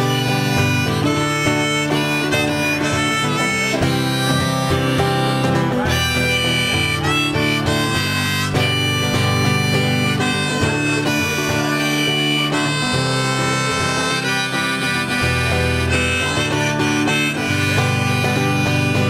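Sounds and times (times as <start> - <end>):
acoustic guitar accompaniment: 0.0 - 19.0
harmonica solo: 0.0 - 19.0.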